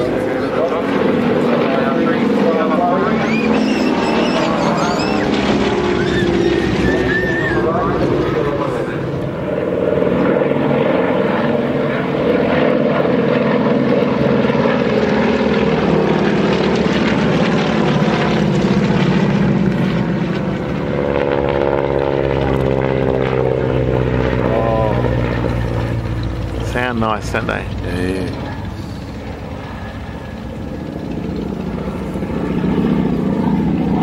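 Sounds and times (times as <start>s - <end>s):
propeller aircraft flying past: 0.0s - 34.0s.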